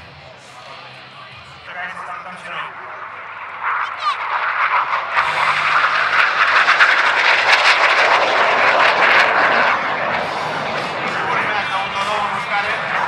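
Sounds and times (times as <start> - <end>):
loud jet engine noise: 0.0 - 13.0.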